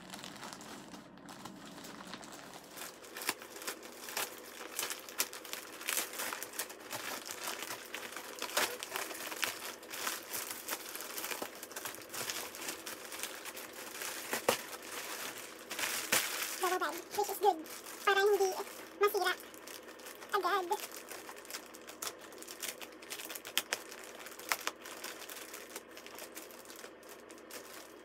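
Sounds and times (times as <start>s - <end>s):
plastic bags crinkling and crackling: 0.0s - 28.0s.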